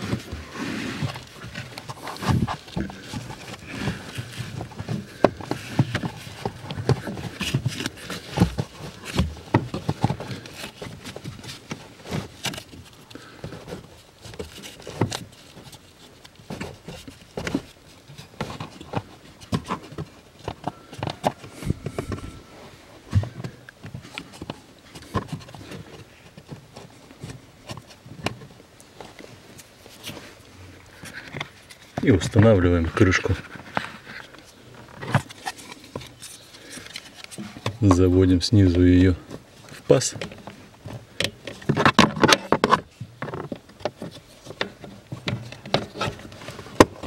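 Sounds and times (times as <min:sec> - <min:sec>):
filter rustling: 0:00.0 - 0:47.0.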